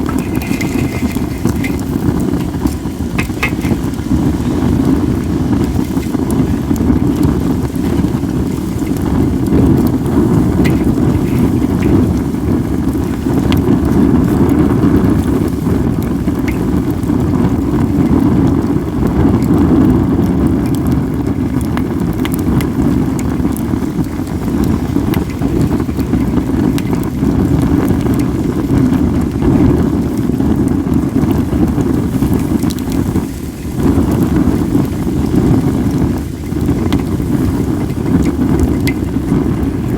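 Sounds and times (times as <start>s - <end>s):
wind buffeting microphone: 0.0s - 39.9s
wood fire crackling: 0.0s - 39.9s.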